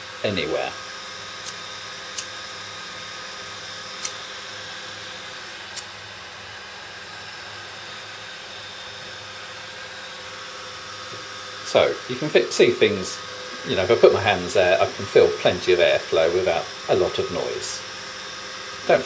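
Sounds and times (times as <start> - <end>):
server fans airflow: 3.4 - 19.0.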